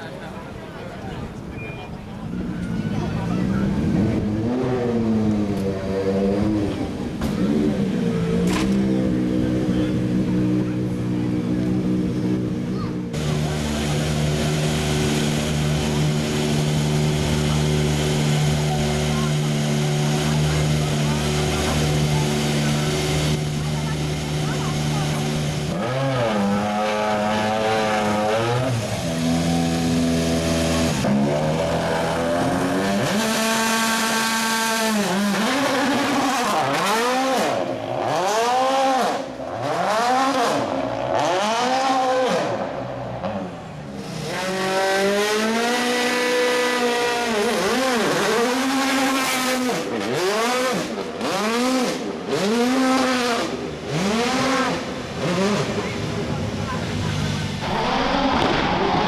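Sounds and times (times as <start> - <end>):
rally car engine revving: 2.6 - 59.0.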